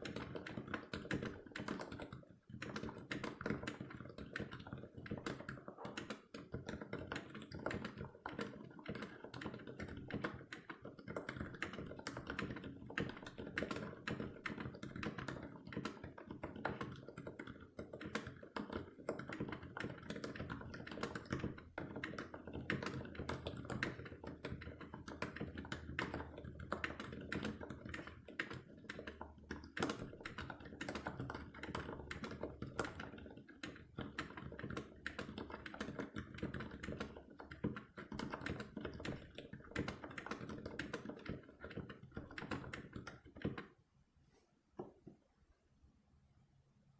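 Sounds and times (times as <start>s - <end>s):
fast typing on mechanical keyboard: 0.0s - 43.8s.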